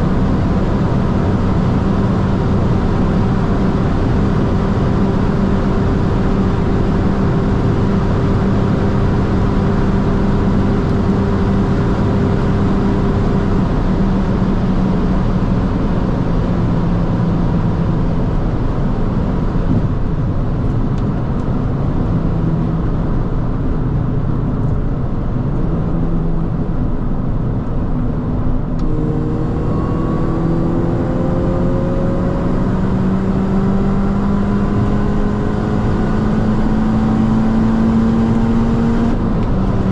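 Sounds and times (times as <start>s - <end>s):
car engine drone: 0.0s - 39.9s
road and wind noise: 0.0s - 39.9s.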